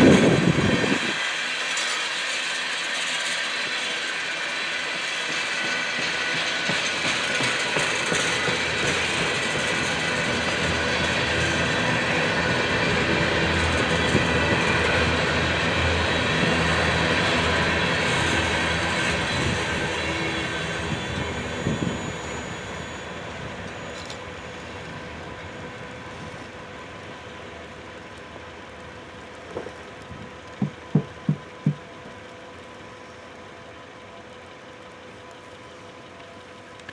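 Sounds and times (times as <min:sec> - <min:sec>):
freight train rolling on rails: 0:00.0 - 0:36.9.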